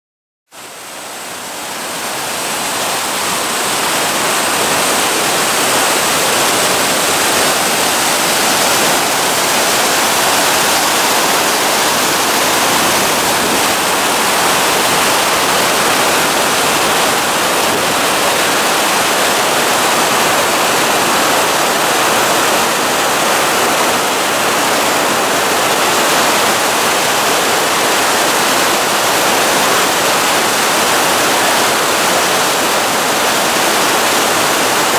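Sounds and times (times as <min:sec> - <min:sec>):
waterfall rushing: 0:00.6 - 0:34.9.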